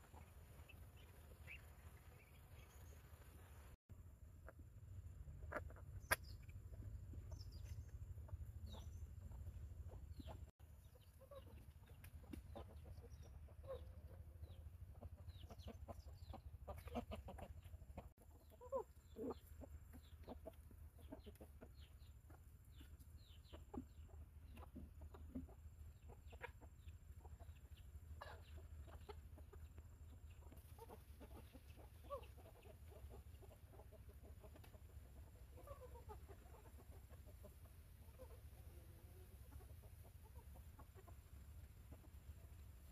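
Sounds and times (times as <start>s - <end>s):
chickens clucking: 0.0s - 42.9s
high chick peeps: 0.0s - 42.9s
low steady rumble: 0.0s - 42.9s.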